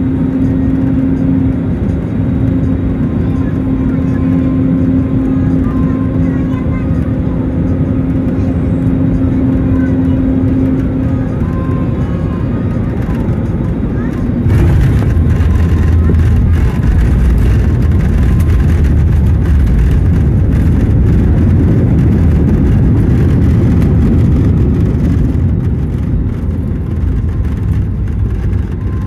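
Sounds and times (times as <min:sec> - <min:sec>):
jet engines rumbling in cabin: 0:00.0 - 0:29.0.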